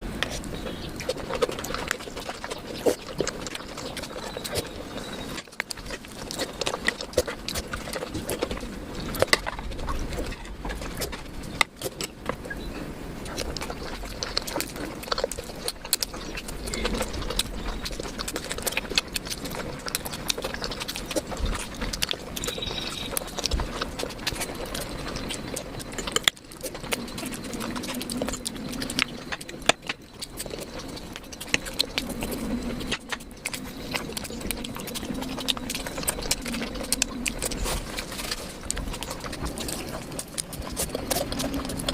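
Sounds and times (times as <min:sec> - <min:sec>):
person chewing and smacking: 0:00.0 - 0:41.9.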